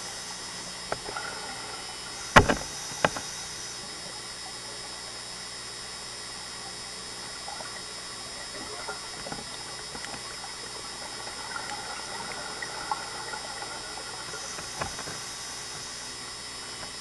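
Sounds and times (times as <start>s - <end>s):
underwater hiss: 0.0s - 4.5s, 7.2s - 17.0s.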